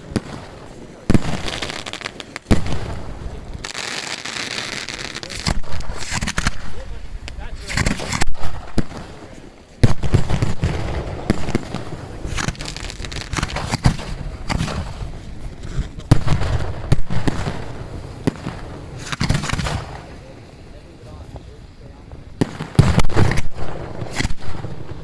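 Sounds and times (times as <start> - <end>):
fireworks booming: 0.0 - 25.0
fireworks crackling: 0.0 - 25.0.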